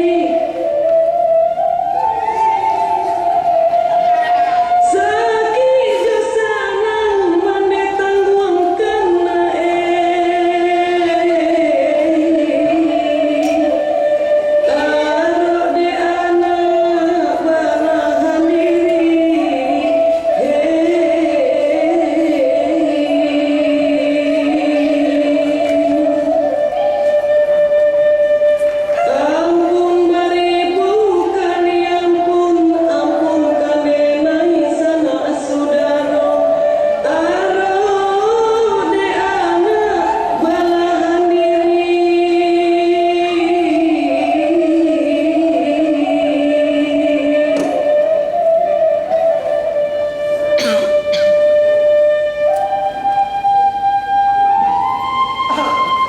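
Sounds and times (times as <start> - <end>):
two voices singing held notes: 0.0 - 53.9.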